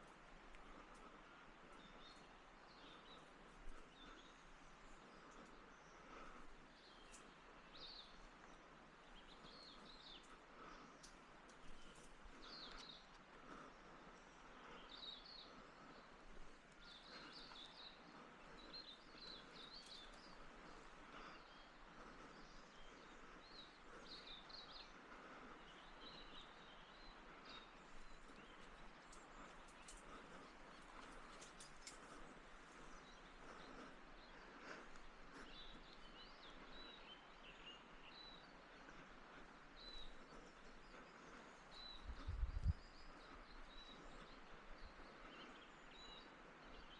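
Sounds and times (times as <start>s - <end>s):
faint bird chirps: 0.6s - 46.9s.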